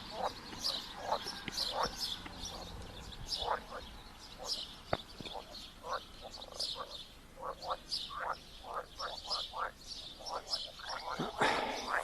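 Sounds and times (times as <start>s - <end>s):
birds chirping: 0.0s - 12.0s
frogs croaking: 0.0s - 12.0s.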